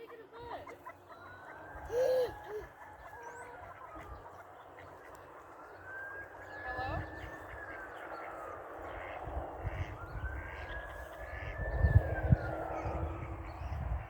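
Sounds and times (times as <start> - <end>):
distant wailing siren: 0.3 - 14.0
wind rumble on microphone: 1.6 - 14.0.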